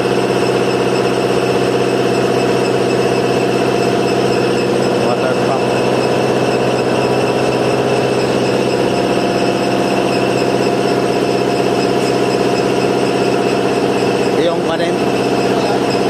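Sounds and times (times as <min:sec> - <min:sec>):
truck engine running steadily: 0:00.0 - 0:16.0.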